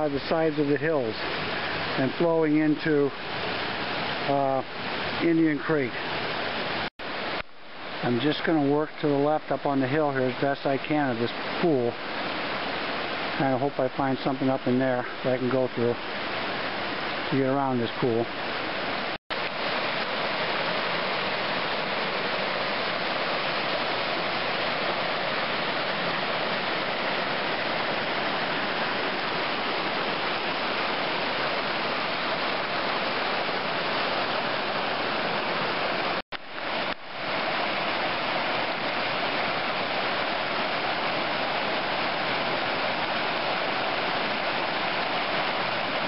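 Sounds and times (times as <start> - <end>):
creek water rushing over waterfall: 0.0 - 46.0.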